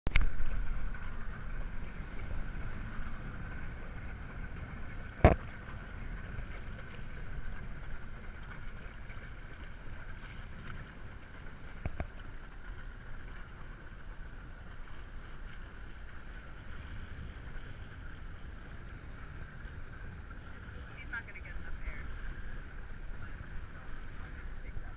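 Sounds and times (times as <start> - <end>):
choppy water: 0.1 - 24.9
wind rumbling on microphone: 0.1 - 24.9.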